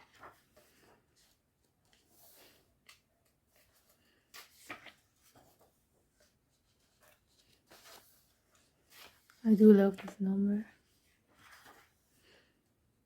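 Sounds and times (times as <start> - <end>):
paper pages rustling: 0.0 - 12.2.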